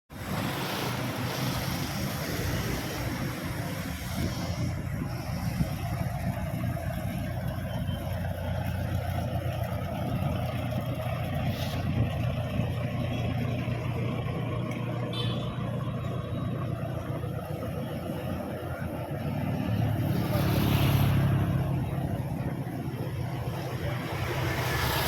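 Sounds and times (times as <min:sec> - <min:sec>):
engine running: 0:00.1 - 0:25.0.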